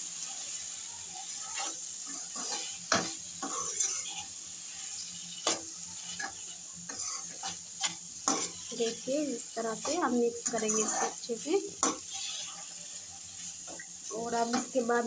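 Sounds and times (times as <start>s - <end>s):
vegetables sizzling in a pan: 0.0s - 15.0s
spatula scraping and knocking pan: 1.5s - 9.1s, 9.7s - 15.0s.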